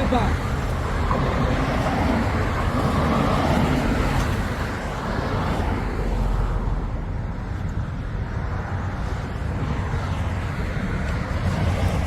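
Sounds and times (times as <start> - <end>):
cars going by: 0.0 - 12.0.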